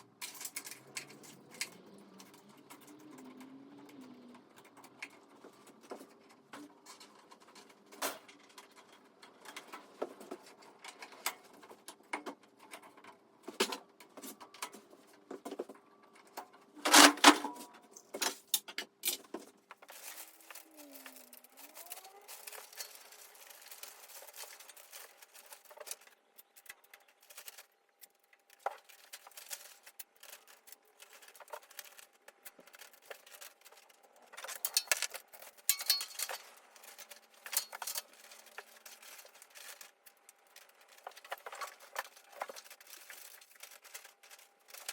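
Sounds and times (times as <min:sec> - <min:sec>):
clicks and clatters of parts and tools: 0:00.0 - 0:44.9.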